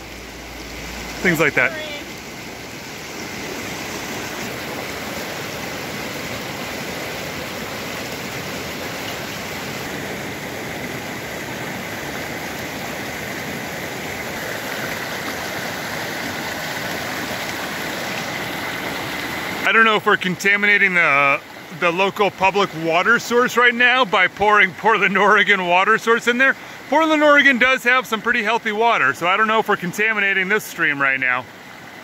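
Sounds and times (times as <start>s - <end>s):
water rushing over rocks: 0.0s - 32.0s.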